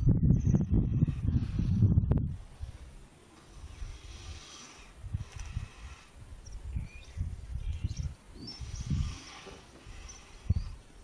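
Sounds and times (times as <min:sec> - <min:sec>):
small birds chirping: 0:00.0 - 0:02.0, 0:03.4 - 0:11.0
low rumbling pulses: 0:00.0 - 0:10.8.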